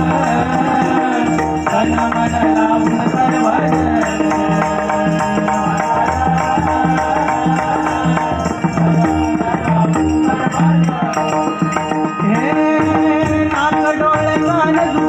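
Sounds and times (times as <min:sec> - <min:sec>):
hand drum rhythm: 0:00.0 - 0:15.0
jingling percussion: 0:00.0 - 0:15.0.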